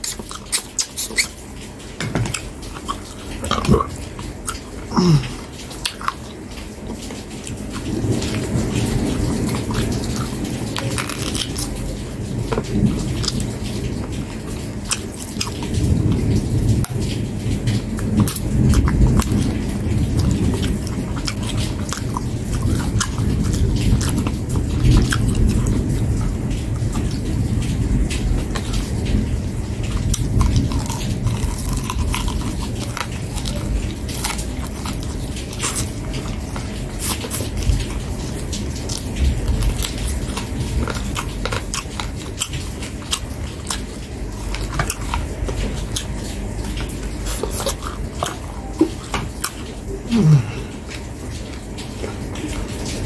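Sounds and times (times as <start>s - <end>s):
close chewing with mouth clicks: 0.0s - 53.0s.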